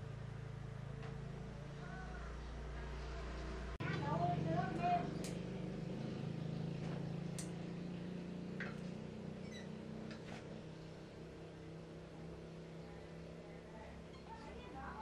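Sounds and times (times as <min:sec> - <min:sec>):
small engine running: 0:00.0 - 0:12.4.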